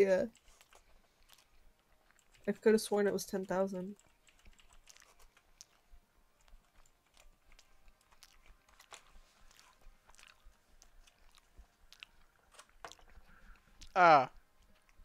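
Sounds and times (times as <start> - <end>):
person chewing: 0.3 - 2.5, 4.0 - 15.0.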